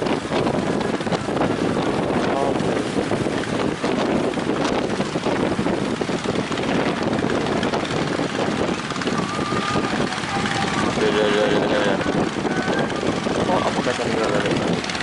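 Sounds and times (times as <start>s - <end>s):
waves rushing: 0.0s - 15.0s
wind buffeting microphone: 0.0s - 15.0s.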